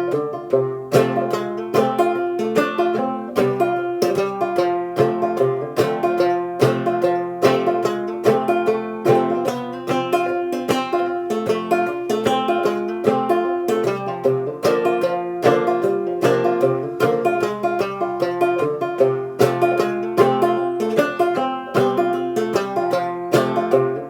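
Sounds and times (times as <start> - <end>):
banjo plucked notes: 0.0 - 24.0.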